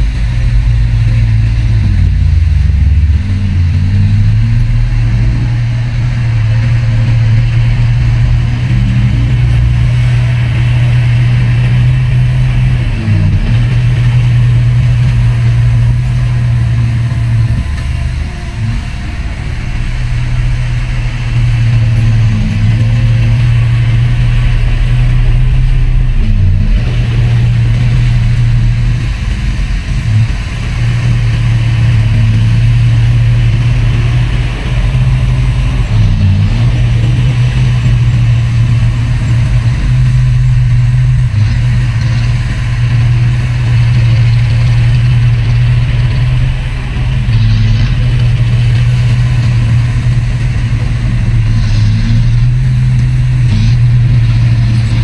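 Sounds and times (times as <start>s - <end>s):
heavy diesel machinery drone: 0.0s - 55.0s.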